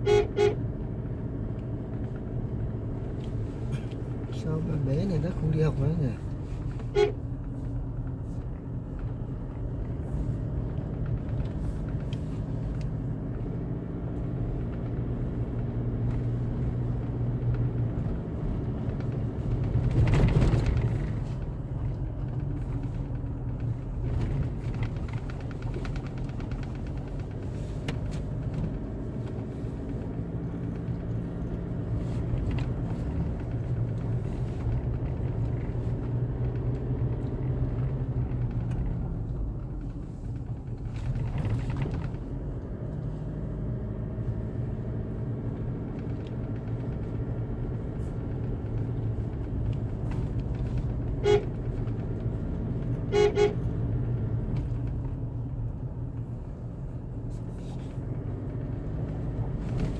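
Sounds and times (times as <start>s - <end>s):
road rumble: 0.0s - 59.9s
vehicle engine running: 0.0s - 59.9s.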